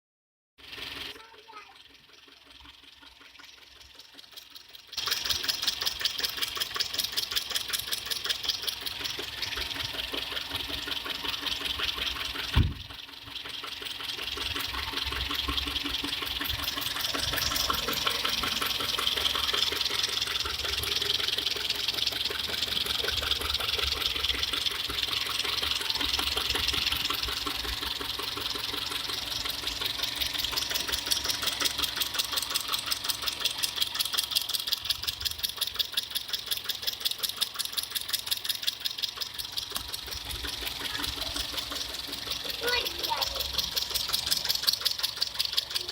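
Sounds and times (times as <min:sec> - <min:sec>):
car engine running: 0:00.6 - 0:45.9
loud sharp engine knock: 0:00.7 - 0:45.9.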